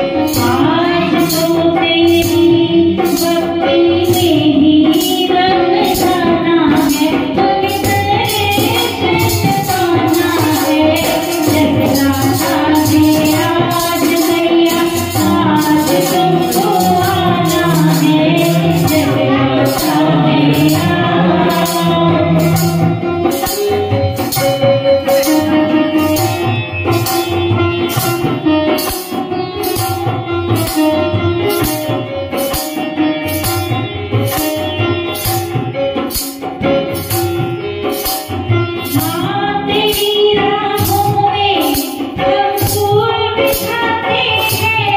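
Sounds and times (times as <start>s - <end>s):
dholak drum: 0.0s - 44.9s
harmonium melody: 0.0s - 44.9s
jingling percussion beat: 6.8s - 44.9s.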